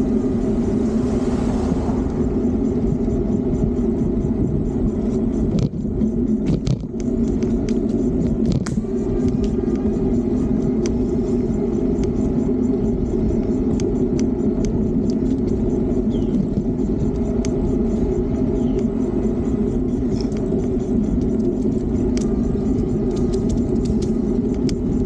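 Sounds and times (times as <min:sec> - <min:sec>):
tyre and road noise: 0:00.0 - 0:25.0
wind on microphone: 0:00.0 - 0:25.0
bike ticking and rattling: 0:02.0 - 0:25.0.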